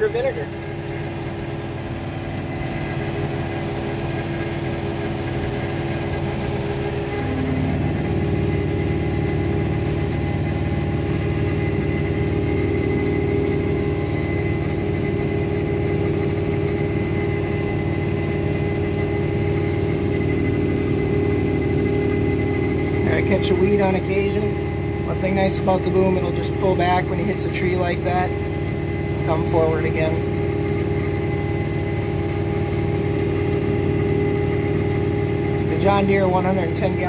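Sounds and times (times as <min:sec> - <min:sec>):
thin steady whine: 0:00.0 - 0:37.0
tractor diesel engine running: 0:00.0 - 0:37.0.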